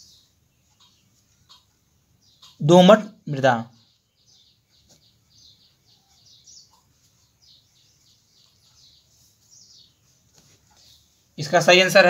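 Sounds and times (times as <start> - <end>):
faint high bird chirps: 0.0 - 11.6.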